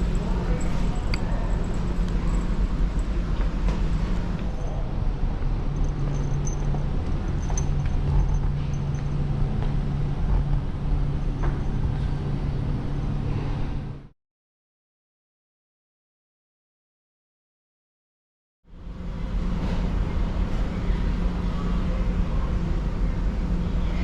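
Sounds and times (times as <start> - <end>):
low engine drone: 0.0 - 14.1, 18.7 - 24.0.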